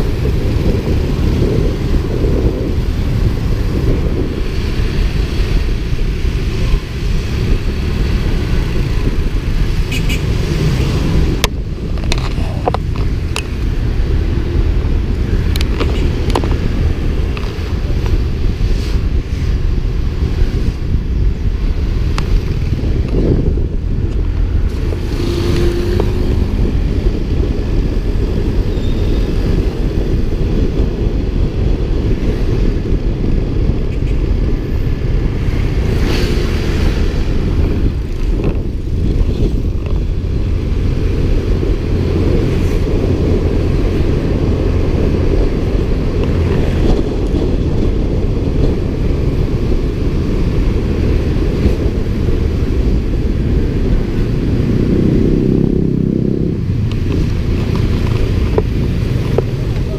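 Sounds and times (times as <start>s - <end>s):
passing motorcycles and cars: 0.0s - 59.9s
wind rushing on microphone: 0.0s - 59.9s.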